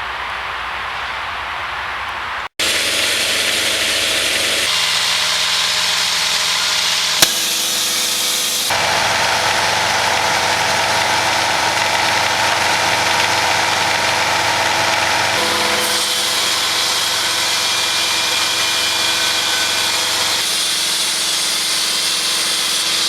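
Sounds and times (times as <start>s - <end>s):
sawmill engine running: 2.6s - 23.0s.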